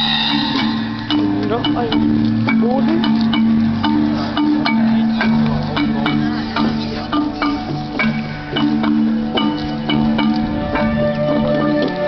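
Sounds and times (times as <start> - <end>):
struck percussion notes: 0.0 - 12.0
sustained low notes: 0.0 - 12.0.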